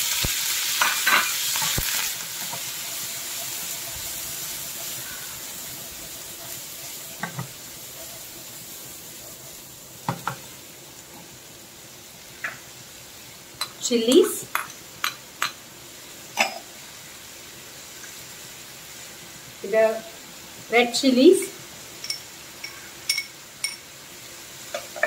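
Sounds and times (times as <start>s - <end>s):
prawns sizzling in frying pan: 0.0s - 25.0s.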